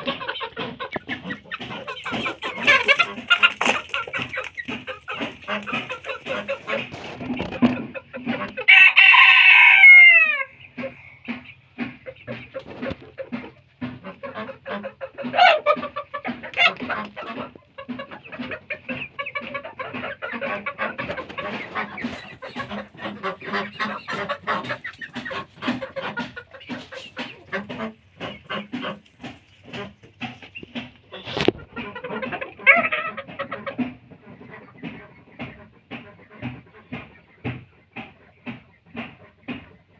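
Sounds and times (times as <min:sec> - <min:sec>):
chicken loud calls: 0:00.0 - 0:11.2, 0:12.0 - 0:34.8
chickens clucking: 0:00.0 - 0:39.9.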